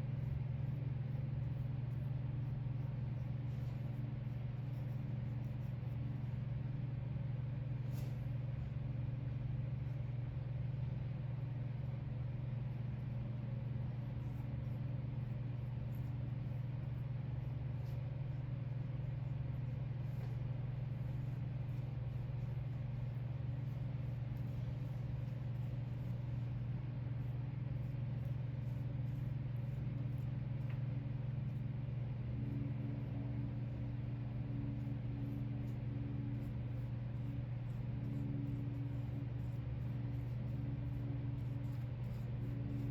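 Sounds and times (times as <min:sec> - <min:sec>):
low mechanical hum: 0:00.0 - 0:42.9.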